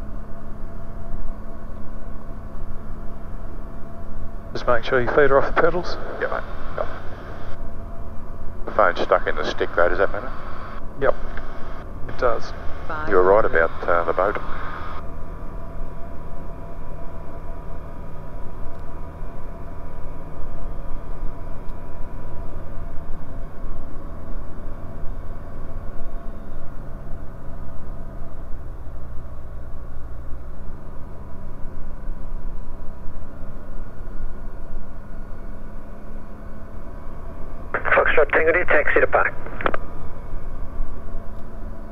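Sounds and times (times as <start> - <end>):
light aircraft engine droning: 0.0 - 41.9.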